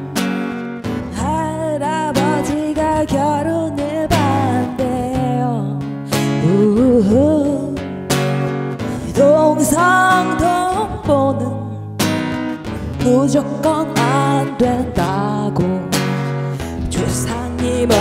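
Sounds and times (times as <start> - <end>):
guitar chords strummed: 0.0 - 18.0
person singing blues: 0.0 - 18.0.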